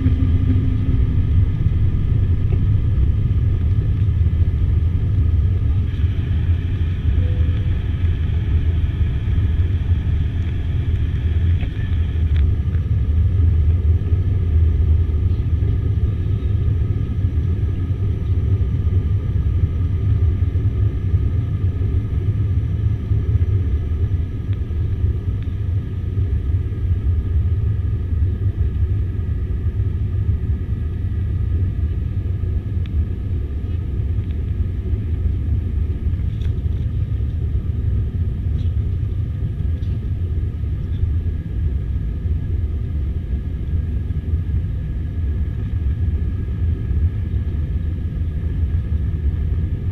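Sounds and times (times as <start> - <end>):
airliner engine rumble: 0.0 - 49.9
faint steady whine: 0.0 - 49.9.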